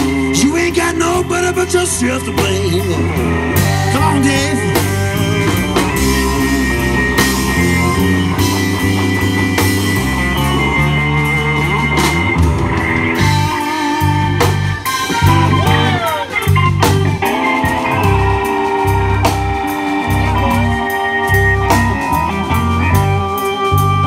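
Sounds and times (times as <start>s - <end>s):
bass guitar: 0.0s - 24.0s
drum kit: 0.0s - 24.0s
electric guitar lead: 0.0s - 24.0s
keyboard: 0.0s - 24.0s.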